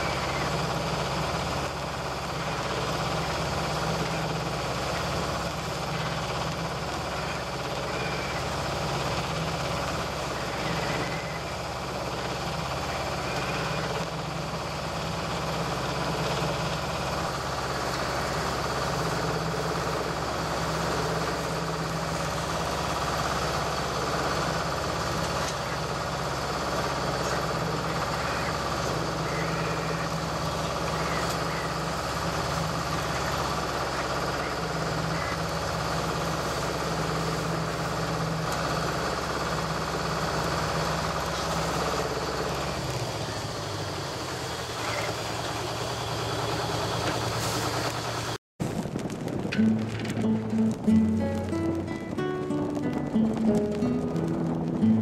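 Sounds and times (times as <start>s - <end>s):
marine diesel engine running: 0.0s - 55.0s
wind: 0.0s - 55.0s.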